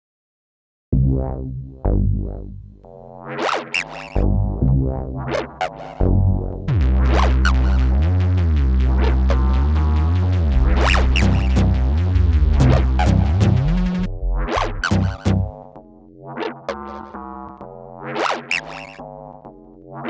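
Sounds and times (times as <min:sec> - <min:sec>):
electronic music with synth bass: 0:00.9 - 0:20.0.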